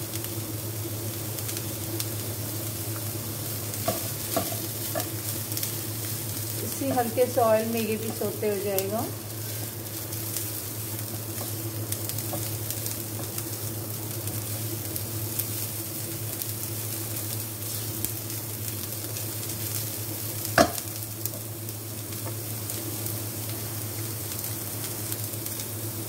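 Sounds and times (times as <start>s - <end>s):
steady low hum: 0.0s - 26.0s
vegetables sizzling in oil: 0.0s - 26.0s.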